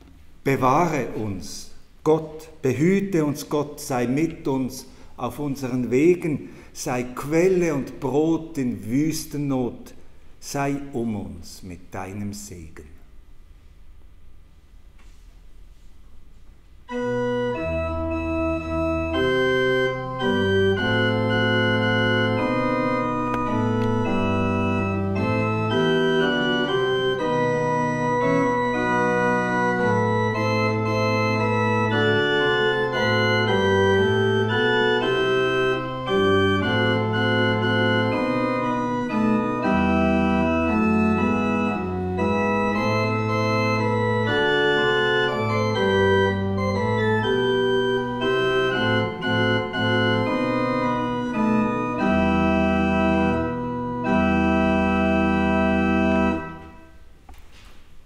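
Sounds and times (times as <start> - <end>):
pipe organ playing a hymn: 0.4 - 12.9, 16.8 - 57.1.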